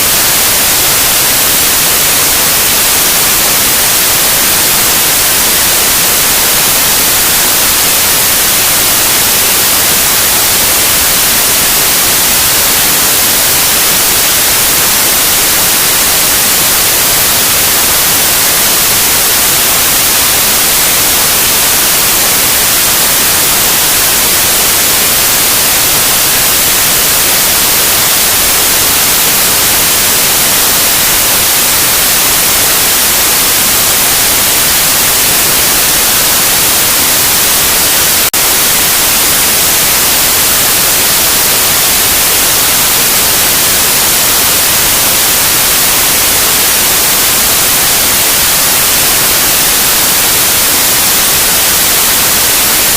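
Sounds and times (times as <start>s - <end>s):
white noise hiss: 0.0s - 52.9s.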